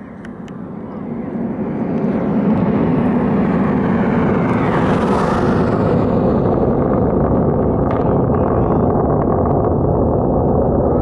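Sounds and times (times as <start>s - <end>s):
distant rocket engine rumble: 0.0s - 11.0s.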